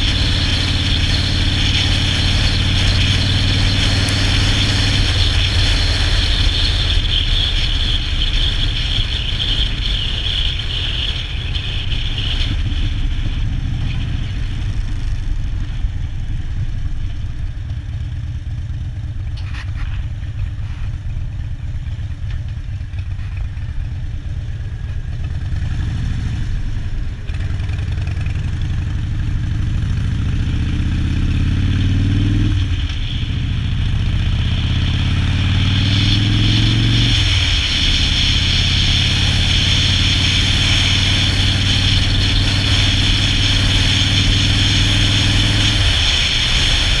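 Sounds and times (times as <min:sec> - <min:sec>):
motorcycle engine shifting gears: 0:00.0 - 0:47.0.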